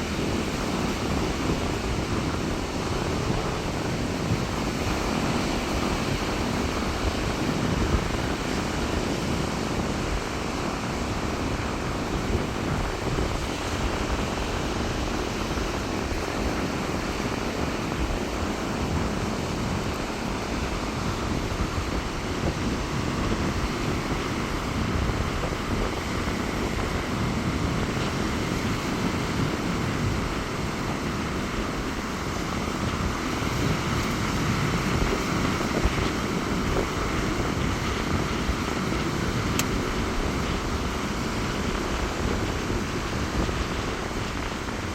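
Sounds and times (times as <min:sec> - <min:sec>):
surf breaking on beach: 0:00.0 - 0:44.9
wind buffeting microphone: 0:00.0 - 0:44.9.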